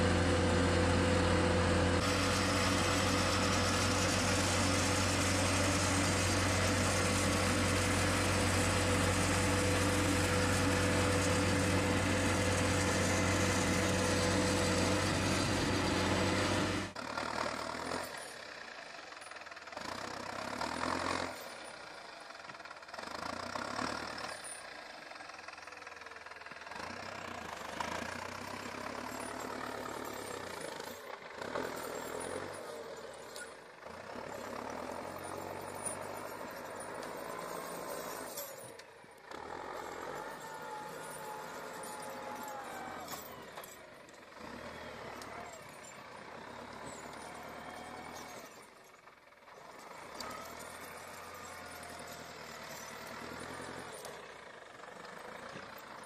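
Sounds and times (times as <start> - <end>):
tractor engine with snowblower: 0.0 - 56.0
tractor engines running hard: 0.0 - 56.0.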